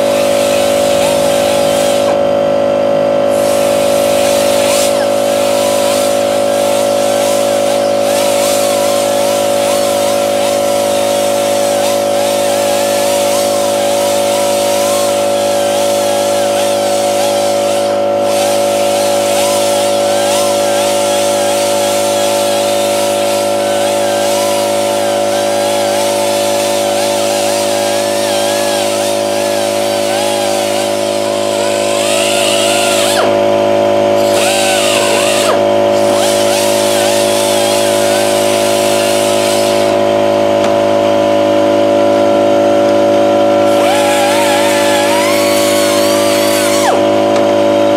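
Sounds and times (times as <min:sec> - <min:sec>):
grinder disc rasping on steel: 0:03.3 - 0:40.1, 0:43.6 - 0:47.5.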